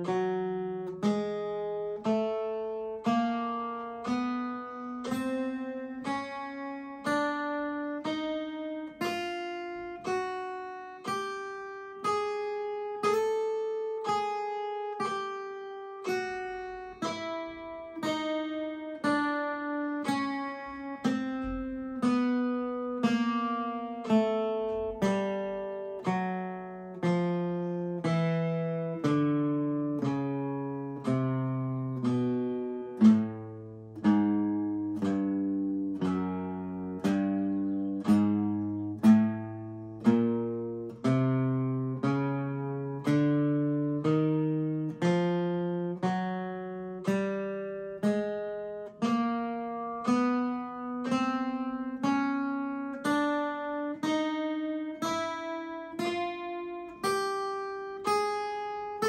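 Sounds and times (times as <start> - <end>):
acoustic guitar single picked notes: 0.0 - 59.0.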